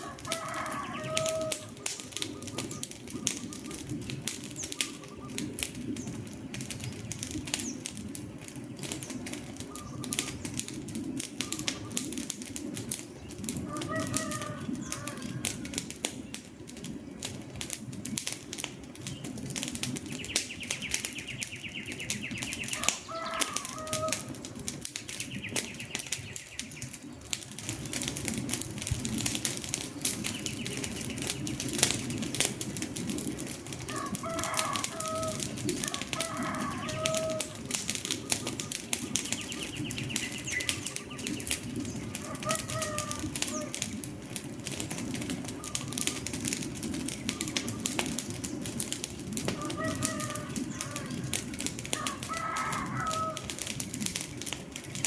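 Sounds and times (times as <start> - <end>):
birds calling: 0.0 - 16.4, 19.0 - 28.4, 29.0 - 55.0
wood fire crackling: 0.0 - 55.0.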